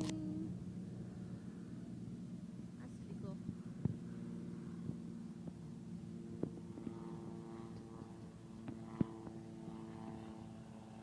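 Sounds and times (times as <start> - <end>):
distant propeller engine drone: 0.0 - 11.0.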